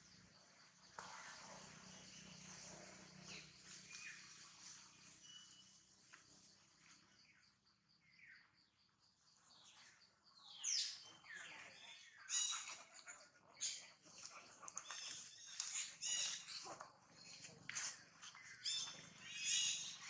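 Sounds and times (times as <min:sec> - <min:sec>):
bird chirps: 0:00.0 - 0:20.0.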